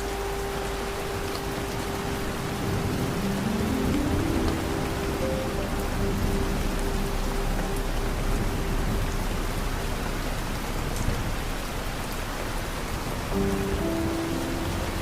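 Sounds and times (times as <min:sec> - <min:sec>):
rain falling: 0:00.0 - 0:15.0
soft low held tones: 0:00.0 - 0:15.0.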